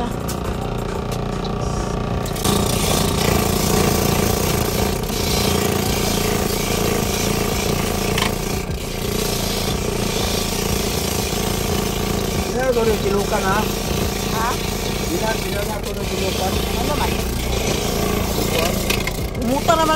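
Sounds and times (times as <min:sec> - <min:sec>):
coconut rasping on metal grater: 0:02.2 - 0:19.9.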